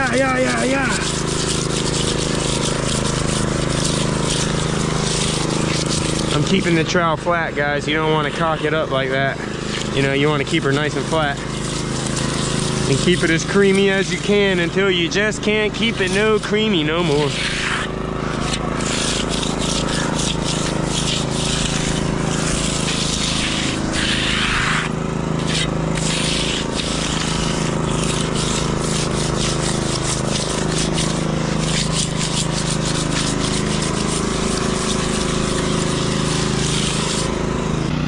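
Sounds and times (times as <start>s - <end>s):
engine running: 0.0s - 38.0s
trowel scraping wet concrete: 0.0s - 38.0s.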